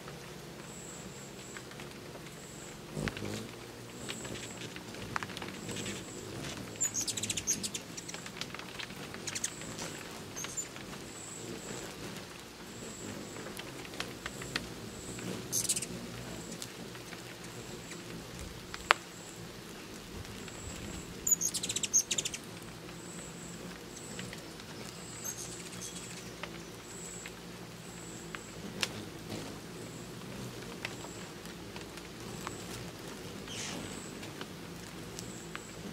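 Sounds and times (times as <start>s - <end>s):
hummingbirds chattering: 0.0s - 35.9s.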